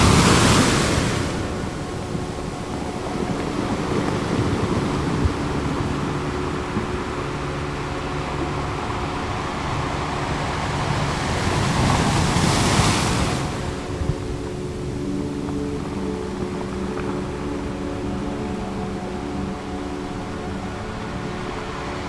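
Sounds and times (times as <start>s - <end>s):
low steady drone: 0.0s - 22.0s
ocean surf washing: 0.0s - 22.0s.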